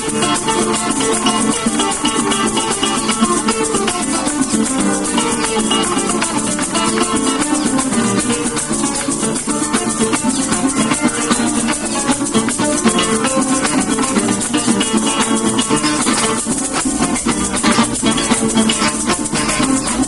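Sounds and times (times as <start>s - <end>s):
maraca shaking: 0.0s - 20.0s
plucked string instruments melody: 0.0s - 20.0s.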